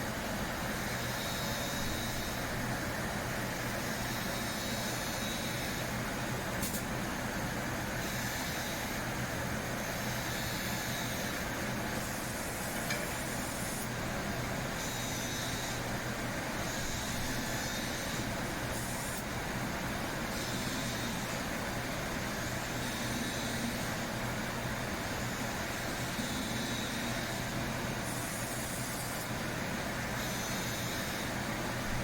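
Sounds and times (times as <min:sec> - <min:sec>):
high machine whine: 0:00.0 - 0:32.0.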